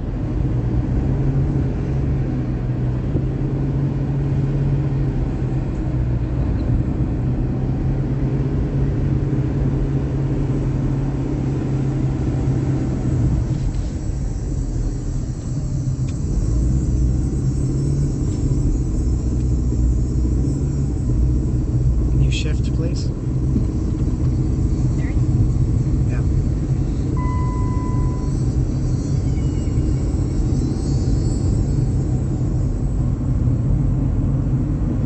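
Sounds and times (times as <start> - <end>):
constant low hum: 0.0 - 35.0
motor vehicle running: 0.0 - 35.0.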